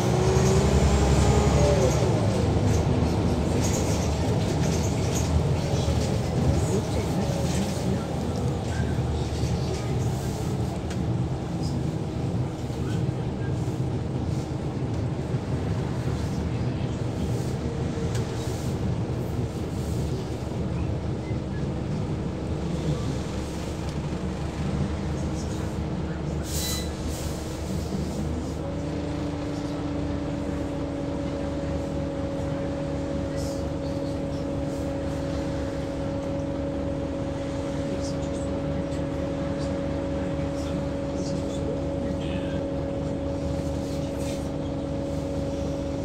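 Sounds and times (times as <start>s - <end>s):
bus engine and road rumble: 0.0s - 46.0s.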